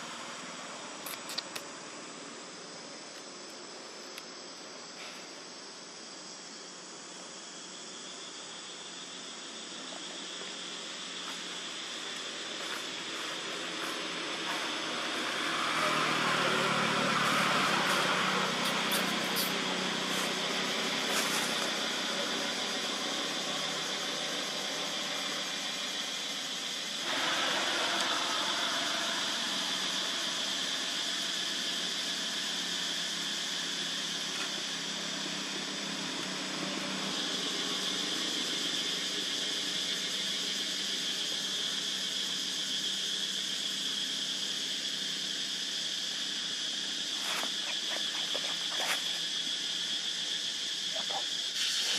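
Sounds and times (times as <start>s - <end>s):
insects droning: 0.0s - 51.9s
outdoor background hiss: 0.0s - 51.9s.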